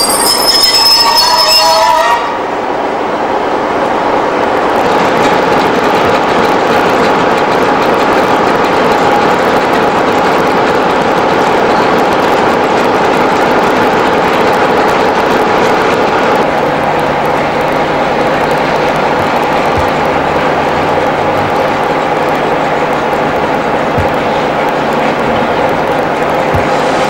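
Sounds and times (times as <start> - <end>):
diesel train engine droning: 0.0 - 27.0.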